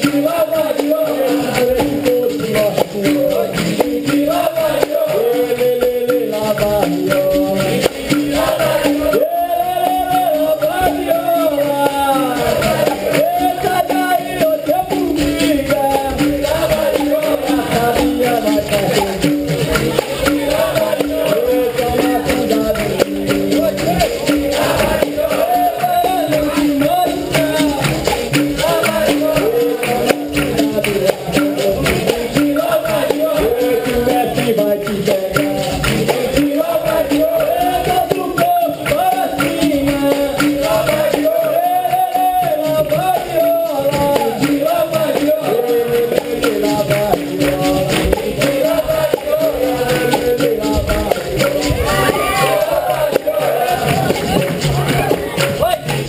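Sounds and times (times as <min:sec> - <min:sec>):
group singing: 0:00.0 - 0:56.0
pandeiro rhythm: 0:00.0 - 0:56.0.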